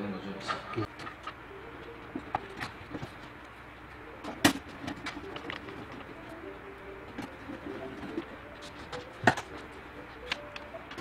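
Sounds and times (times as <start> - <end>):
hand tapping computer parts: 0.5 - 11.0.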